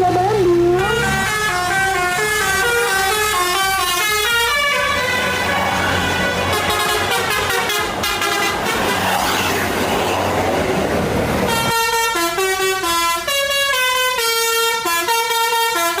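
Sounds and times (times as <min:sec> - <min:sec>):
bus horn playing melody: 0:00.4 - 0:09.2, 0:11.5 - 0:16.0.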